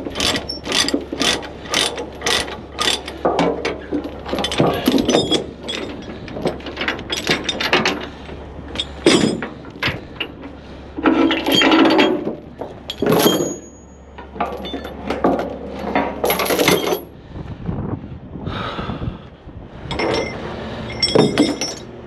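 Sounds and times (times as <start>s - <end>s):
metal clanking and knocking: 0.0s - 17.1s, 19.9s - 22.0s.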